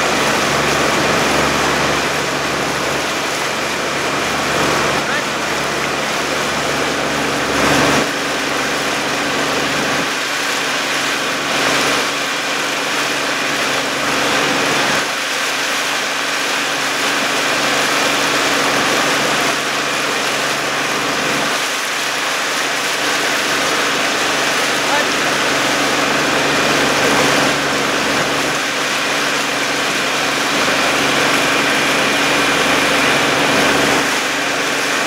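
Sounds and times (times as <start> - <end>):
motorboat engine humming: 0.0 - 35.0
water rushing: 0.0 - 35.0.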